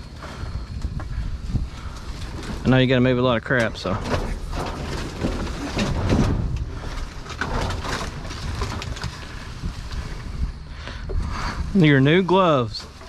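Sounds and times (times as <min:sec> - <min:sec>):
junk knocking and rustling: 0:00.0 - 0:11.7
low steady rumble: 0:00.0 - 0:13.0.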